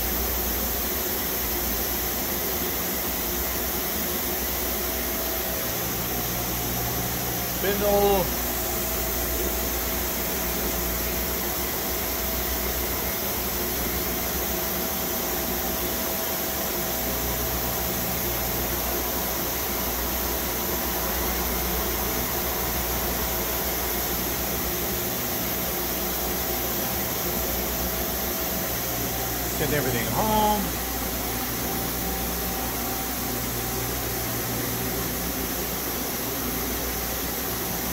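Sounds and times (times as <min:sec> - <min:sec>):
machine hum and hiss: 0:00.0 - 0:37.9
thin steady whine: 0:00.0 - 0:37.9.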